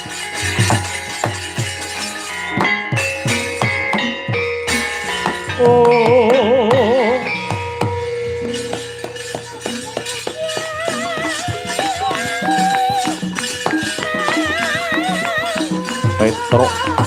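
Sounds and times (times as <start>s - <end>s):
clicking rattling percussion: 0.0s - 17.0s
wavering melody with vibrato: 0.0s - 17.0s.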